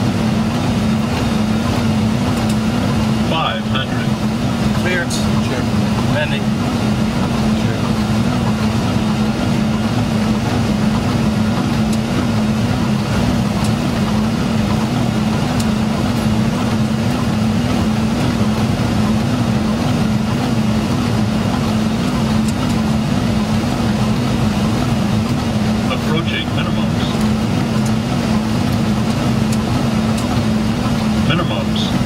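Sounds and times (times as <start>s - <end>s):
aircraft engines droning: 0.0s - 32.0s.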